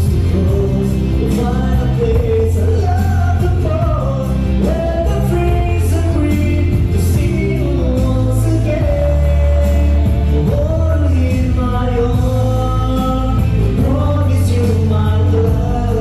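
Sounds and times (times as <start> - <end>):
amplified live singing: 0.0 - 16.0
backing track with heavy bass: 0.0 - 16.0.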